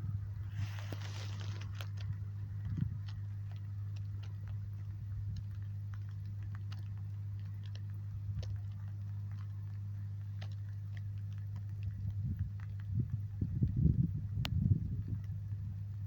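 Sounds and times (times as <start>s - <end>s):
steady low hum: 0.0s - 16.0s
rain pattering and dripping: 0.5s - 16.0s.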